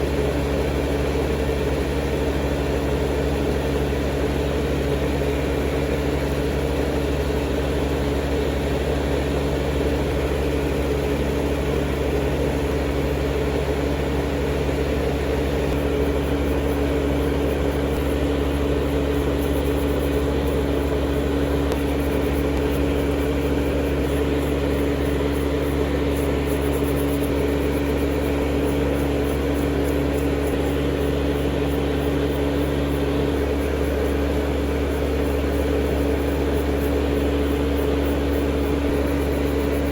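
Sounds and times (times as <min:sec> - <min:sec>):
electric motor hum: 0:00.0 - 0:39.9.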